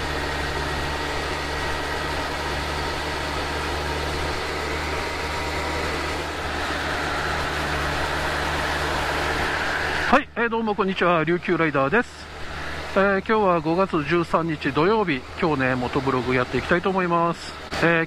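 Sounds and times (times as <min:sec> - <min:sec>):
motorcycle engine cruising: 0:00.0 - 0:18.0
road noise: 0:00.0 - 0:18.0.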